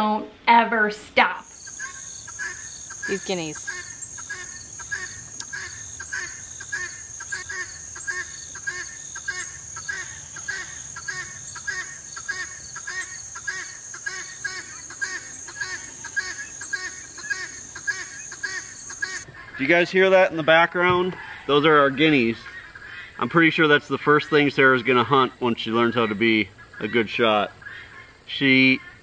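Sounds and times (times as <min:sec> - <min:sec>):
guinea fowl calling: 0:01.4 - 0:29.0.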